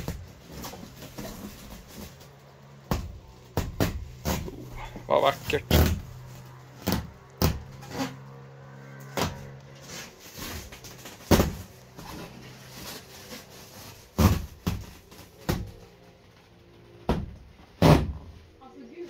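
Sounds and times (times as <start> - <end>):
plastic film peeling and crinkling: 0.0 - 17.0.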